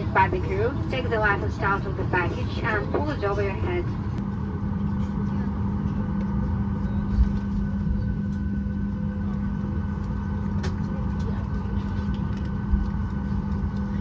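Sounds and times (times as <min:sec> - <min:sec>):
aircraft cabin hum: 0:00.0 - 0:14.0.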